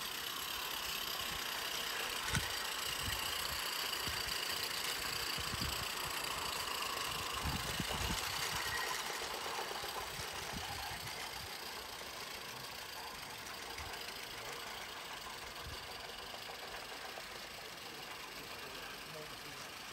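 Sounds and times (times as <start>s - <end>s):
model steam locomotive hissing: 0.0s - 19.9s.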